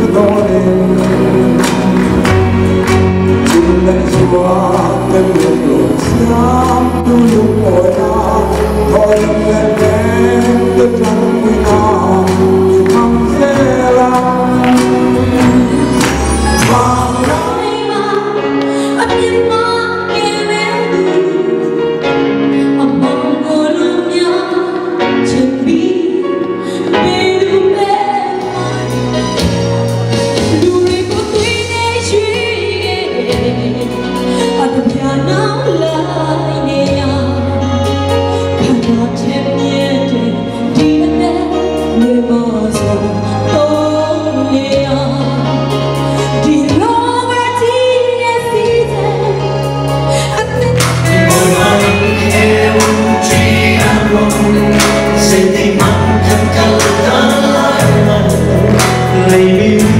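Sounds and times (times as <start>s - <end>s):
person singing into microphone: 0.0s - 29.5s, 30.2s - 59.9s
instrumental backing with bass: 0.0s - 59.9s.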